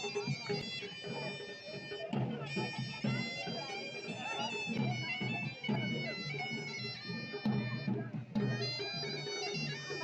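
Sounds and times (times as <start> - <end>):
reedy wind instrument melody: 0.0 - 10.0
steady drum beats: 0.0 - 10.0.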